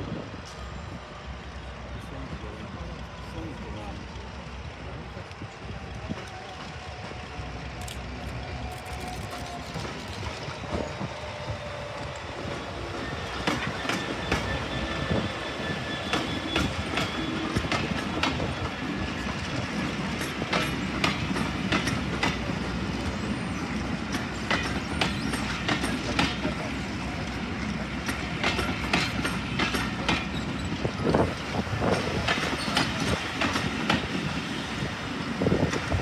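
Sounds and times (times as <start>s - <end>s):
train rumbling past: 0.0s - 36.0s.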